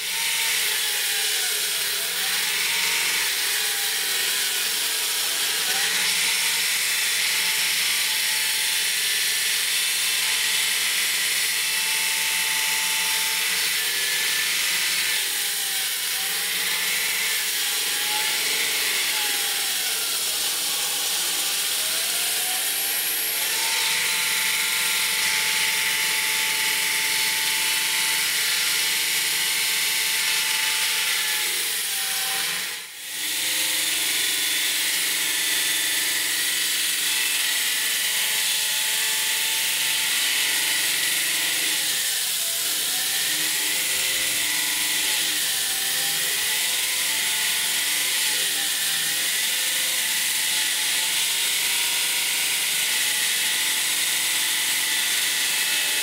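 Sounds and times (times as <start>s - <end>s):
circular saw cutting concrete: 0.0s - 56.0s.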